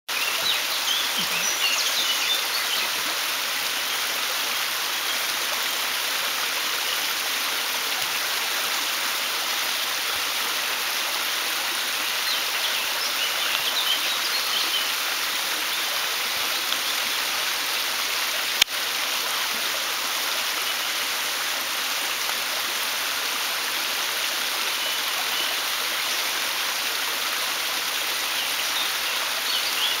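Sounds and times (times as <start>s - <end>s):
stream flowing over rocks: 0.1s - 30.0s.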